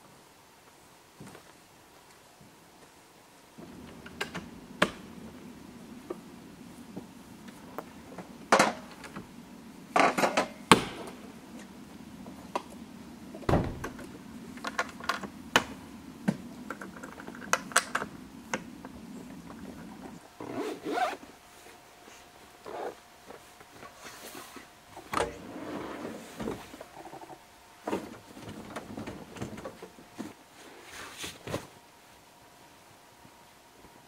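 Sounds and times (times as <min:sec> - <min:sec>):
steady low hum: 0:03.1 - 0:30.8.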